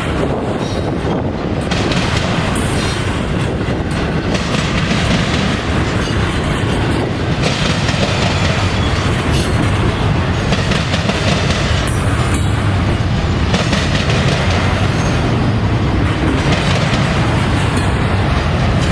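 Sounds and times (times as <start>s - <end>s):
freight train wheels rumbling: 0.0s - 18.9s
wheels clicking over rail joints: 0.0s - 18.9s.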